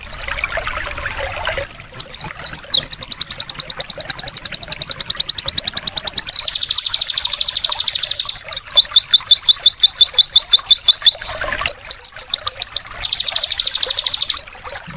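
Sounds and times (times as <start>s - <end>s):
bird singing fast trills: 0.0s - 14.9s.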